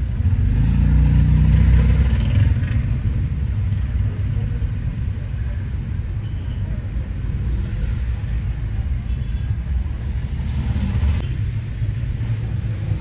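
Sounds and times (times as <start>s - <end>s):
car driving on wet street: 0.0s - 13.0s.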